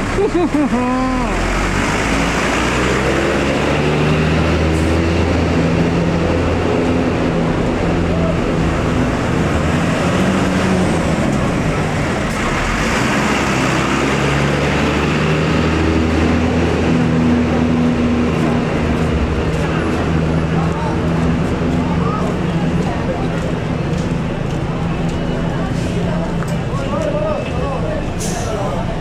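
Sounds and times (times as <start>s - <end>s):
bus diesel engines revving: 0.0s - 29.0s
road traffic roar: 0.0s - 29.0s.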